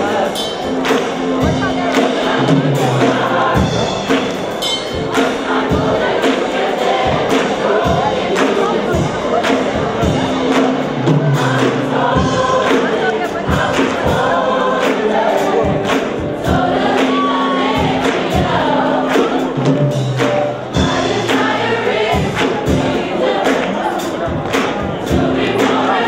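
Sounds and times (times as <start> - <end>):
choir singing gospel: 0.0 - 26.0
steady beat: 0.0 - 26.0.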